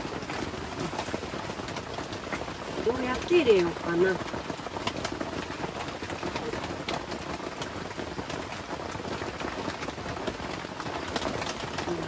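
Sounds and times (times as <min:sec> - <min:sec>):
rain falling: 0:00.0 - 0:12.0
raindrops striking as sharp ticks: 0:00.0 - 0:12.0.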